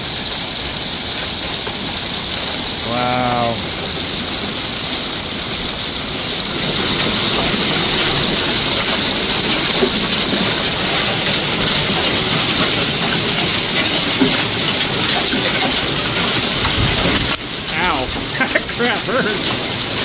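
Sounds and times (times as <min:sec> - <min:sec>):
heavy hail pelting: 0:00.0 - 0:20.0.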